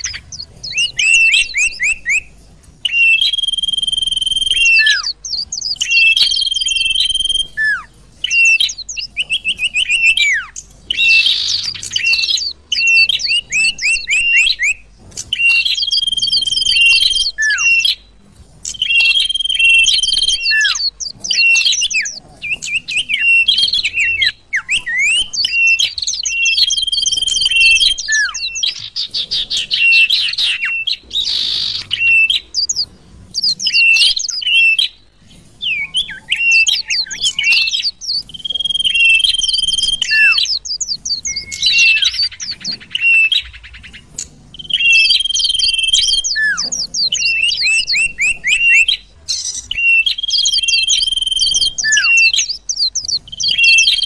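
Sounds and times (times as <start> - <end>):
recorded songbird calls: 0.0 - 54.0.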